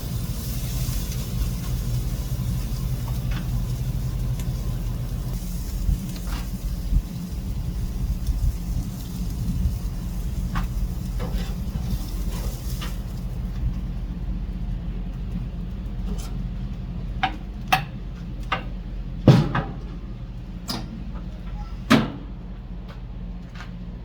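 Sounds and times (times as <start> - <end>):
steady low rumble: 0.0 - 21.5.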